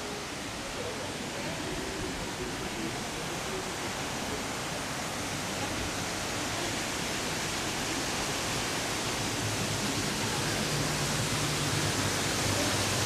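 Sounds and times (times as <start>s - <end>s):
water rushing from cascade: 0.0s - 13.0s.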